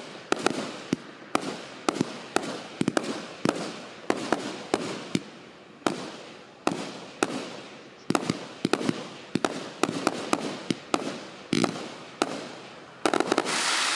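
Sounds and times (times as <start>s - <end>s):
fireworks bangs: 0.0s - 13.9s.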